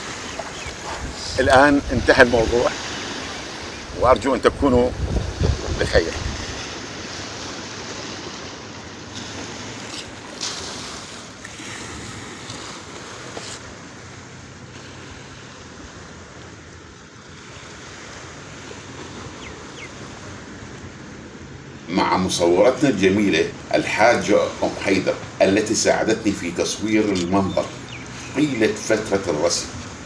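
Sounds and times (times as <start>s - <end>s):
waves washing onto beach: 0.0s - 30.0s.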